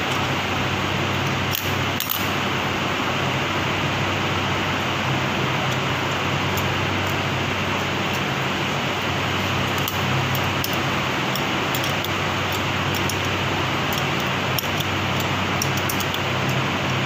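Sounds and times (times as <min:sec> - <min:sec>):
machinery hum and hiss: 0:00.0 - 0:17.0.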